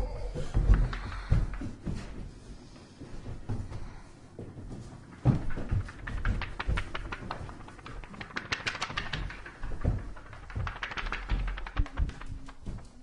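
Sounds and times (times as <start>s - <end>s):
irregular taps and clicks: 0.4s - 2.3s, 3.1s - 13.0s.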